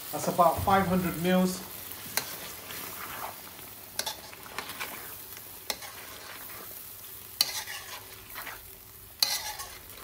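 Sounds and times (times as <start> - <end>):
curry sizzling in a metal pan: 0.0 - 10.0.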